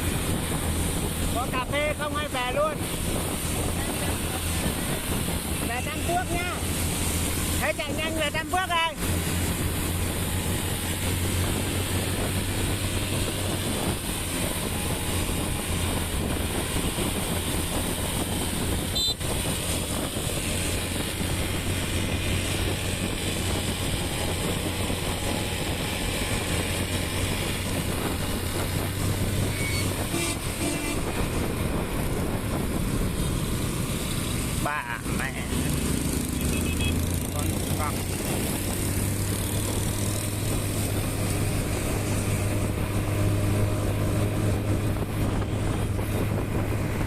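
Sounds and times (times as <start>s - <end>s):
wind and road noise: 0.0s - 47.0s.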